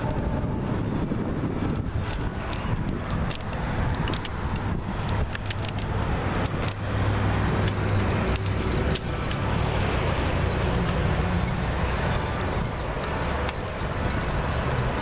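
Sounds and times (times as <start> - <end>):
road traffic rumble: 0.0 - 15.0
wind on microphone: 0.0 - 15.0.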